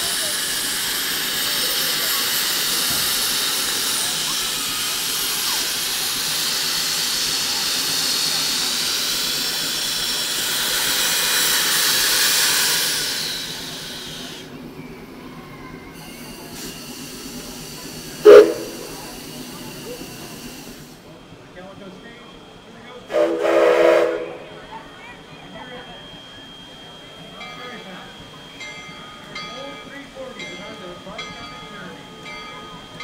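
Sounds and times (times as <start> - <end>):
steam locomotive hissing: 0.0 - 33.0.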